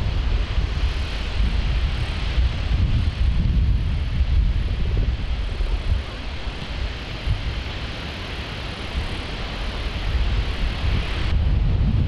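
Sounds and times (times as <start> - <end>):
fire roaring: 0.0 - 12.0.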